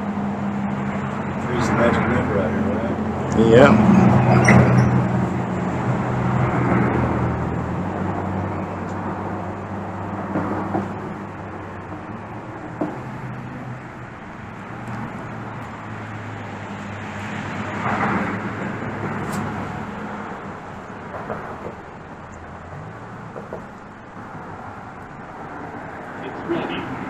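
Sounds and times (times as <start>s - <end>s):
road traffic engine drone: 0.0s - 27.0s.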